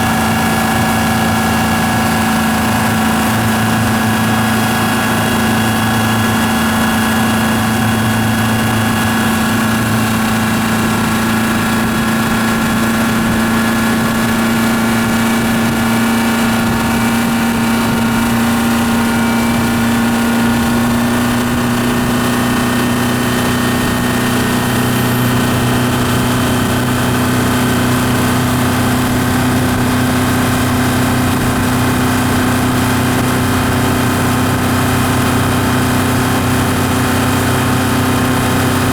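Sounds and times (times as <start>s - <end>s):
outboard engine running: 0.0s - 38.9s.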